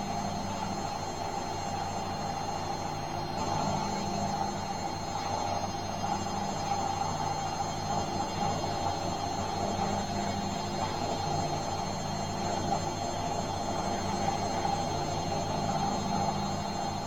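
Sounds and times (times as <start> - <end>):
washing machine humming: 0.0 - 17.0.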